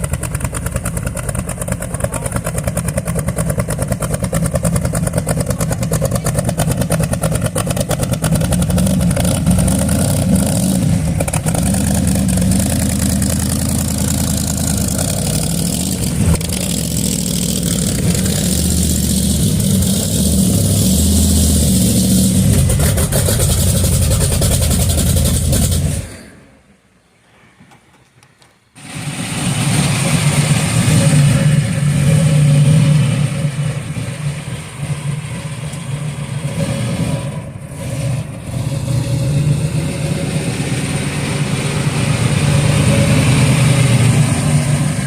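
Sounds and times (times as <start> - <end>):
car engine idling with loud exhaust: 0.0 - 26.1, 28.8 - 45.0.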